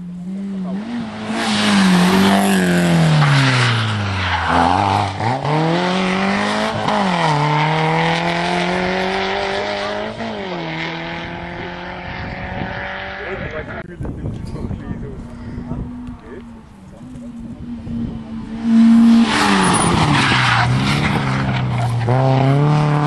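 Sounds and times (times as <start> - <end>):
rally car engine passing: 0.0 - 13.8, 14.4 - 23.0.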